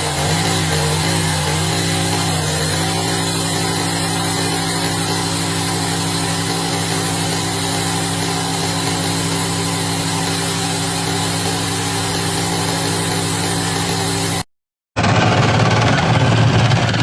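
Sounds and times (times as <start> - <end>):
motor running steadily: 0.0 - 17.0.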